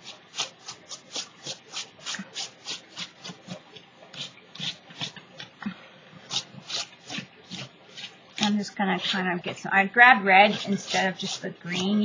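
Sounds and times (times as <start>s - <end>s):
paint spreading scratchy strokes: 0.0s - 12.0s.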